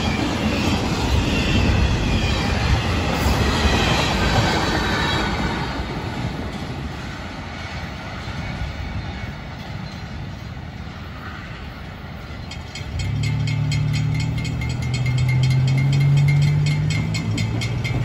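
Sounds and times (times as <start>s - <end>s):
freight train cars rumbling: 0.0s - 18.0s.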